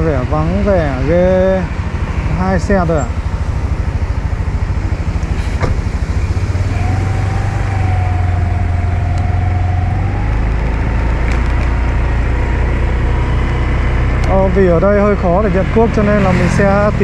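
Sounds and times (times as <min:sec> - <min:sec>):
scooter engine rumble: 0:00.5 - 0:15.4.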